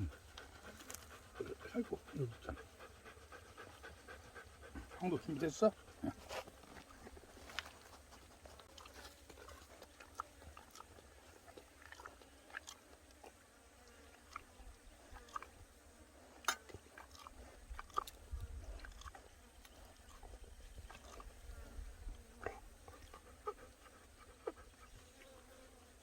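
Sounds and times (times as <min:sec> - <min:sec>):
chewing with clicks and crunches: 0:00.0 - 0:25.6.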